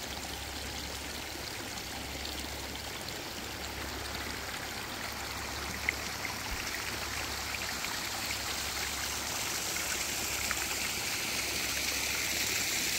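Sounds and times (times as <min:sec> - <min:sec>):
water trickling over rocks: 0:00.0 - 0:12.9.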